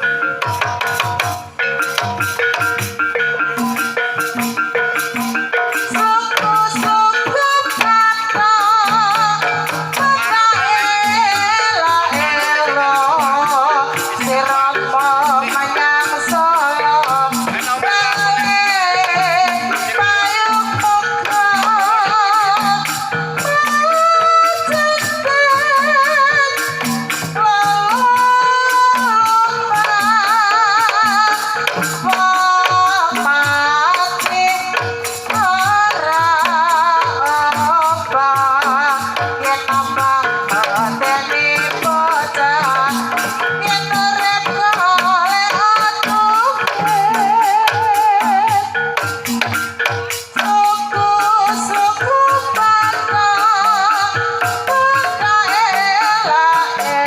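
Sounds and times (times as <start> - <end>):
gamelan percussion beat: 0.0 - 57.0
woman singing with vibrato: 3.4 - 57.0.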